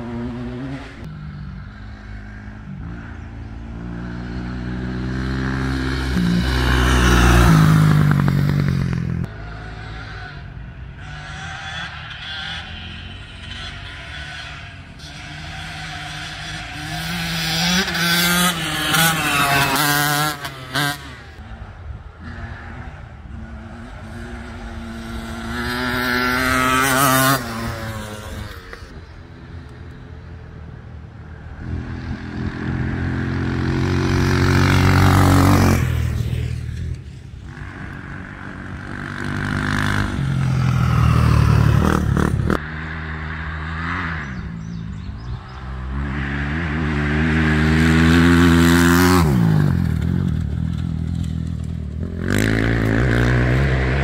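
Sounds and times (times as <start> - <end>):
dirt bike engines passing: 0.0 - 54.0.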